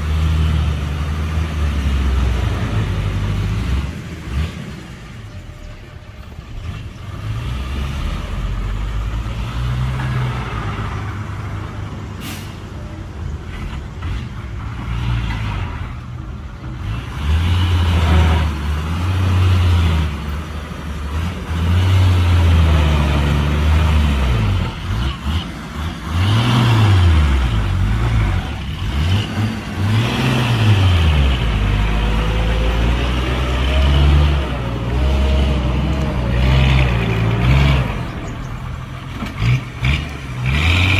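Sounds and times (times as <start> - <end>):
heavy diesel machinery engines: 0.0 - 40.9.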